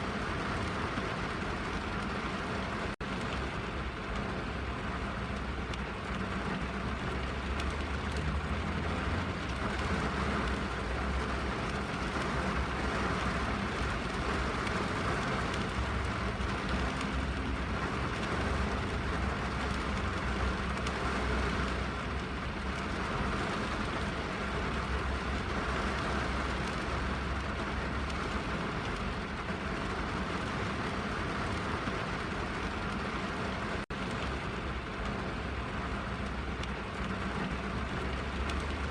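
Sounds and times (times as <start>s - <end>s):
rain on a car roof: 0.0s - 38.9s.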